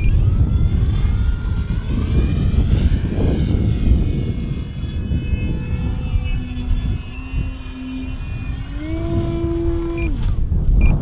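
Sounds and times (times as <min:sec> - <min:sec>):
heavy low rumble: 0:00.0 - 0:11.0
model plane motor whine: 0:00.0 - 0:11.0.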